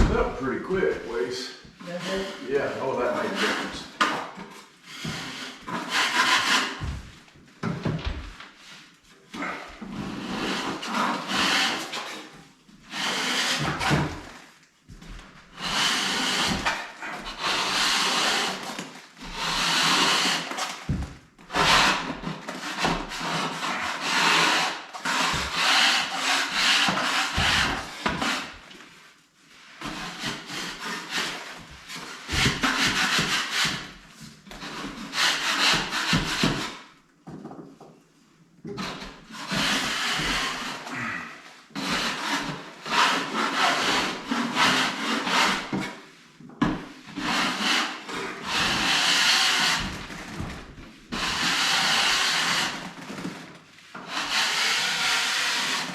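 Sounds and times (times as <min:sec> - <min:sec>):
scraper rasping ceiling texture: 0:00.0 - 0:07.2, 0:07.8 - 0:37.0, 0:38.8 - 0:46.4, 0:47.0 - 0:55.9.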